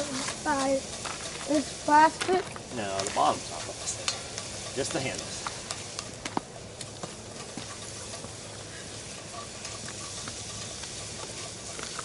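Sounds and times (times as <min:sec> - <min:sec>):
sausage sizzling in frying pan: 0:00.0 - 0:12.0.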